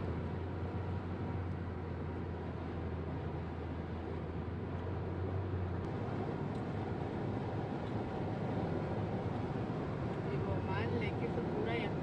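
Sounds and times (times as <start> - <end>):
car road noise: 0.0 - 12.0.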